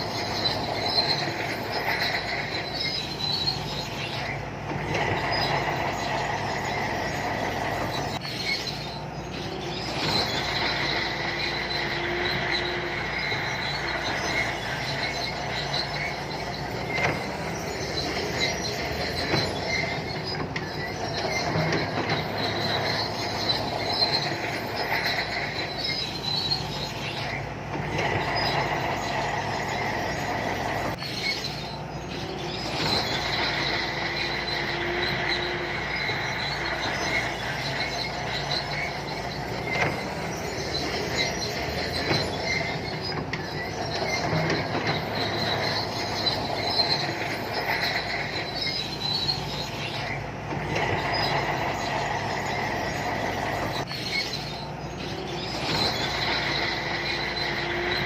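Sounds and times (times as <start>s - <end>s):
bulldozer engine running: 0.0s - 58.0s
high squeal of steel tracks: 0.0s - 58.0s.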